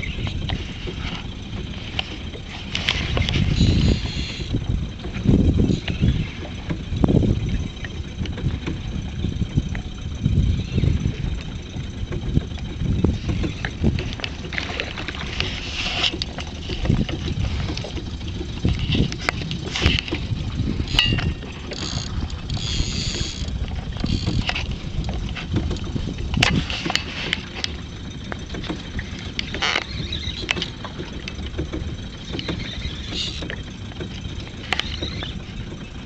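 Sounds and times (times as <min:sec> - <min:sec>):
rumble of wind and water: 0:00.0 - 0:36.0.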